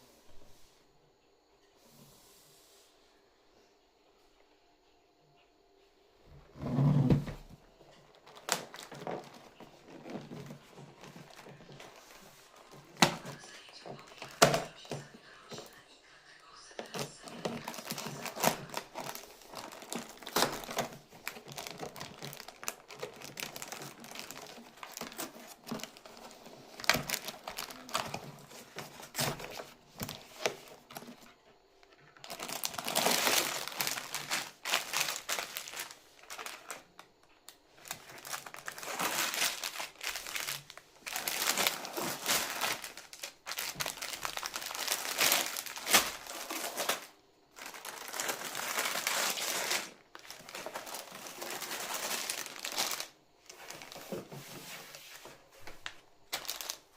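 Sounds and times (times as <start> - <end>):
plastic packaging crinkling: 6.6 - 15.9, 16.5 - 55.0, 55.6 - 56.9.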